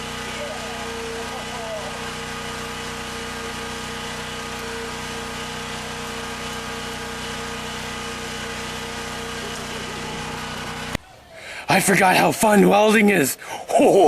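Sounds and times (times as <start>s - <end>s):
generator engine running: 0.0s - 14.0s.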